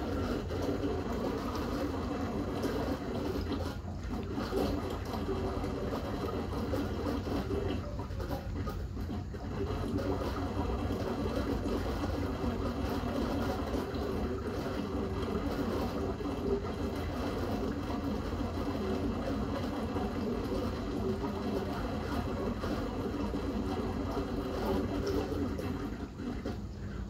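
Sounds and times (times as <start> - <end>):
aquarium water bubbling: 0.0 - 27.0
low pump hum: 0.0 - 27.0.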